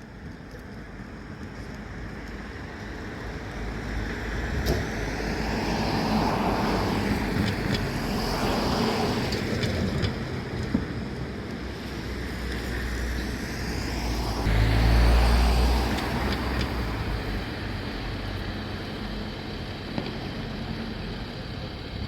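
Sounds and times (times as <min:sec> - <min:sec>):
fire engine diesel engine: 0:00.0 - 0:22.0.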